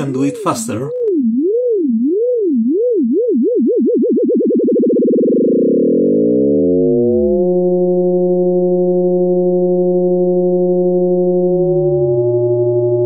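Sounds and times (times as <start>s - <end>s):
frequency modulated sine tone: 0.9s - 13.0s.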